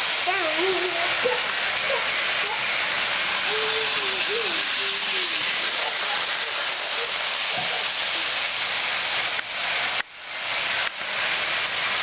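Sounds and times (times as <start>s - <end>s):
toy train whirring on track: 0.0s - 12.0s.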